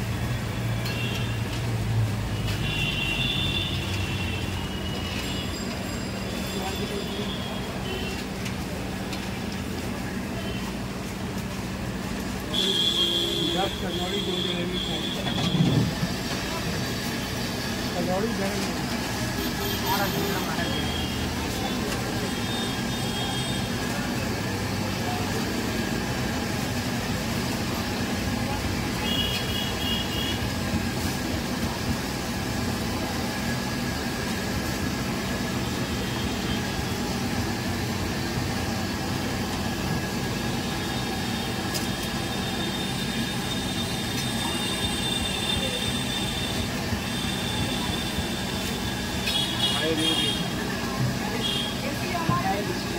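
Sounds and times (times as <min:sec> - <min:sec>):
city street din: 0:00.0 - 0:52.9.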